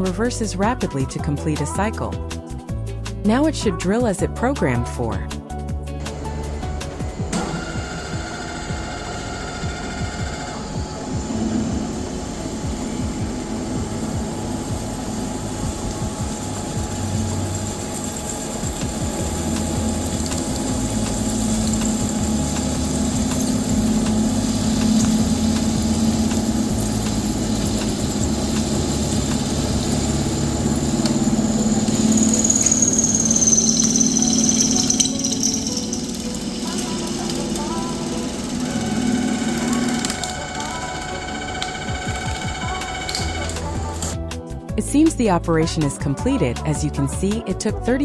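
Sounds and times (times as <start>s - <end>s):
drilling machine hum: 5.3s - 44.4s.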